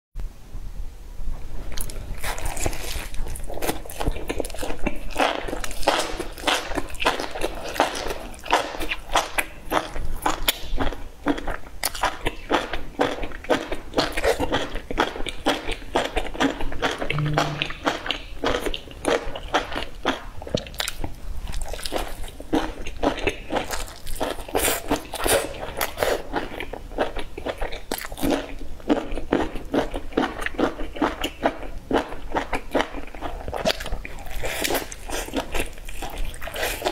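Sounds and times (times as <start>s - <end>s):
person chewing crunchy food: 1.7s - 36.9s.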